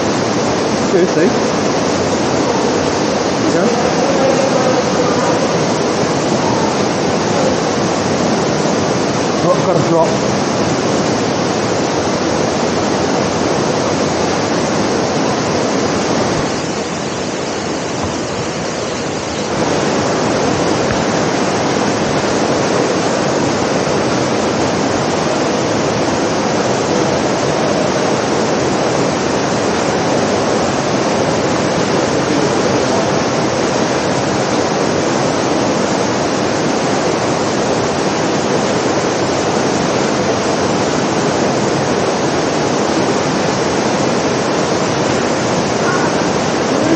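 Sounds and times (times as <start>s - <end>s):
indoor rain falling on floor: 0.0s - 46.9s.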